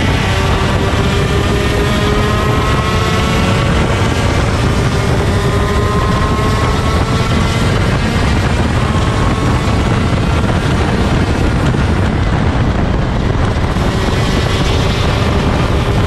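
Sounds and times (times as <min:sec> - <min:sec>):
two-stroke kart engine running hard: 0:00.0 - 0:16.0
wind noise: 0:00.0 - 0:16.0.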